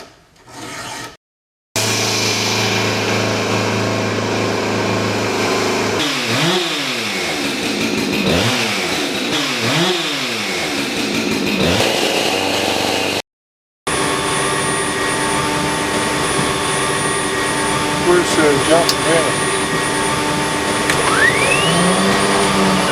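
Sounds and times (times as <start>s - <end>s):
engine drone with high whine: 1.8s - 11.6s, 13.9s - 22.9s
engine revving: 1.8s - 13.2s, 13.9s - 22.9s.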